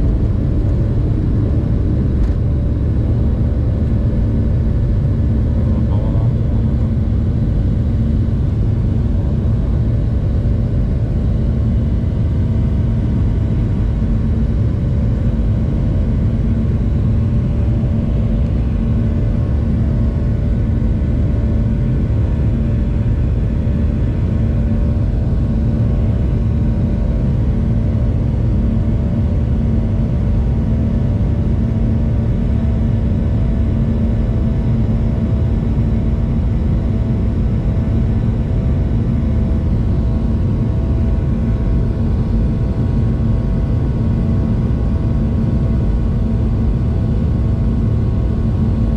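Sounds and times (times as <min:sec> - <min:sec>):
jet engines roaring in cabin: 0:00.0 - 0:48.9.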